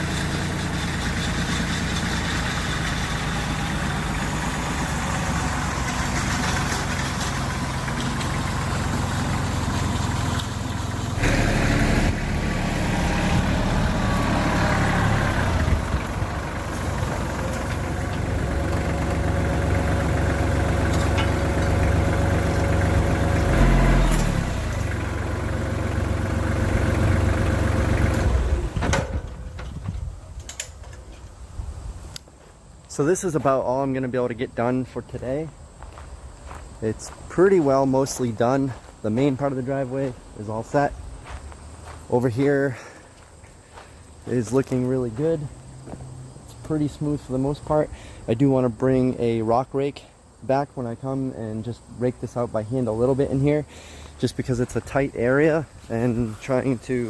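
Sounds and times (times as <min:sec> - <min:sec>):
tractor diesel engine running: 0:00.0 - 0:31.2, 0:36.3 - 0:49.6, 0:50.9 - 0:57.0.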